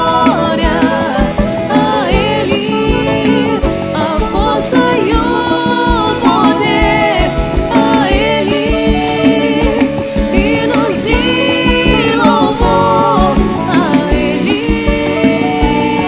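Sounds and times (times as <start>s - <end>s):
band playing: 0.0s - 16.0s
voices singing: 0.0s - 16.0s.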